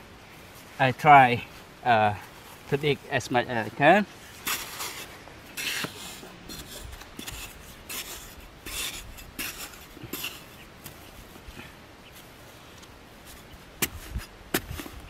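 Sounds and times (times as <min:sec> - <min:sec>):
digging blade scraping dry soil: 0:02.1 - 0:15.0.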